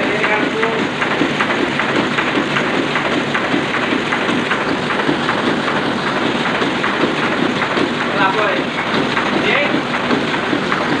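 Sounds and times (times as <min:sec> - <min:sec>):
printing press clattering: 0:00.0 - 0:11.0.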